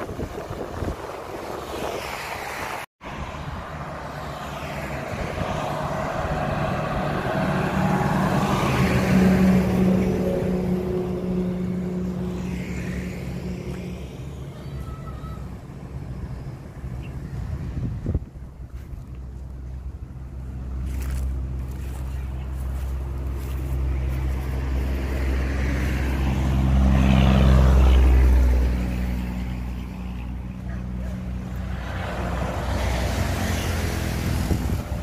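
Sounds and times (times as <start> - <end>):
dump truck passing: 0.0 - 35.0.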